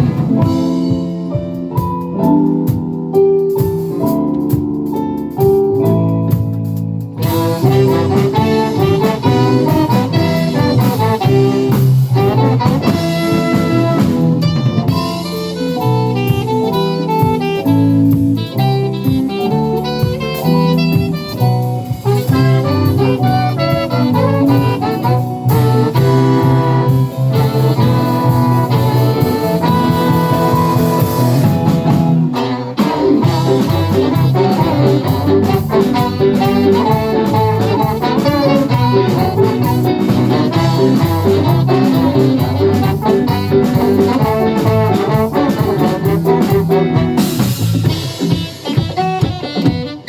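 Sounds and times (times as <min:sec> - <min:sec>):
horns: 0:00.0 - 0:02.5, 0:07.2 - 0:50.0
bass and drums: 0:00.0 - 0:50.0
live band playing: 0:00.0 - 0:50.0.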